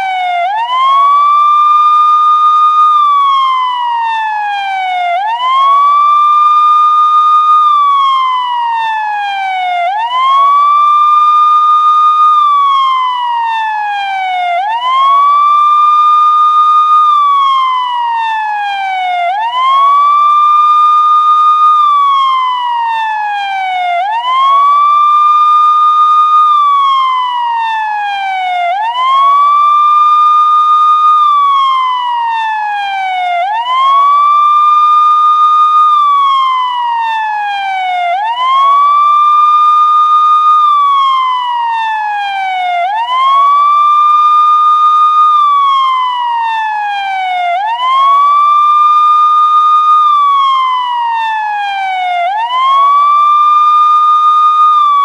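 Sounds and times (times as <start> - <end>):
police siren wailing: 0.0 - 55.0.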